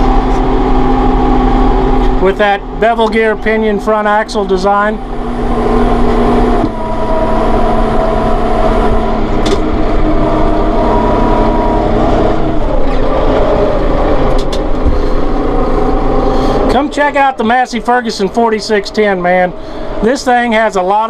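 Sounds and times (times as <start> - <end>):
steady whine: 0.0 - 21.0
tractor diesel engine running: 0.0 - 21.0.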